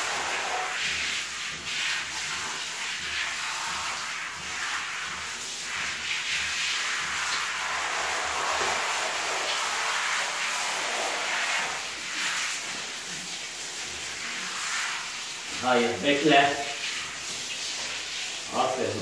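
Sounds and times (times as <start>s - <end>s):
shower head spraying water: 0.0s - 19.0s.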